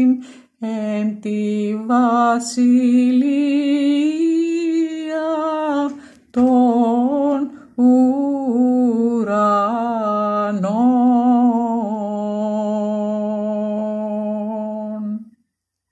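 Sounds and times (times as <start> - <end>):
solo voice chanting: 0.0 - 15.4.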